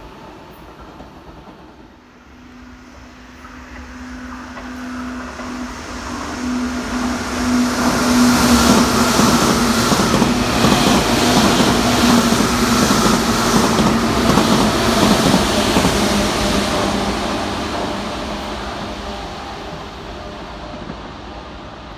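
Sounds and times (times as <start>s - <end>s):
electric train wheels clacking: 0.0s - 21.9s.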